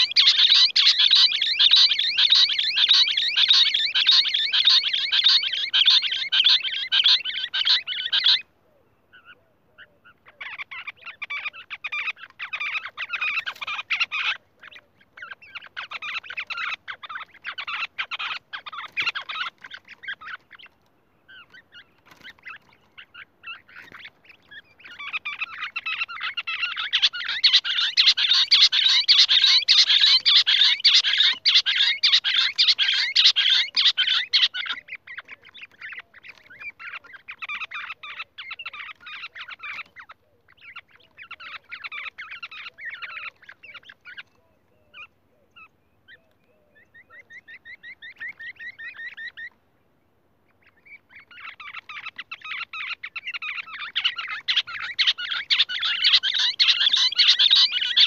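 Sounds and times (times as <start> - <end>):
quail chattering trill: 0.0 - 49.6, 50.5 - 58.0.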